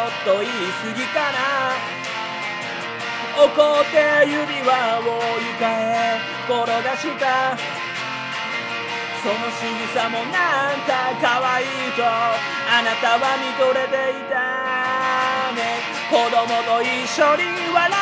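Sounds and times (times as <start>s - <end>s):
electric guitar lead line: 0.0s - 18.0s.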